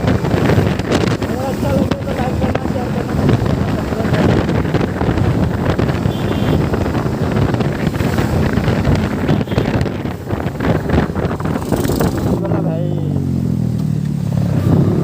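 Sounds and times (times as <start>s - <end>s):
wind buffeting microphone: 0.0s - 13.5s
motorcycle engine running: 0.0s - 15.0s.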